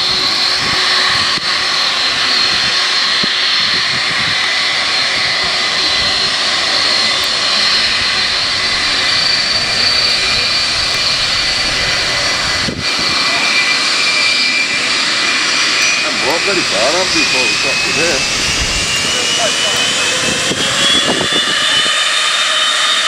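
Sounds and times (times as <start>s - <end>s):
high engine whine: 0.0s - 23.0s
jet engines running: 0.0s - 23.0s.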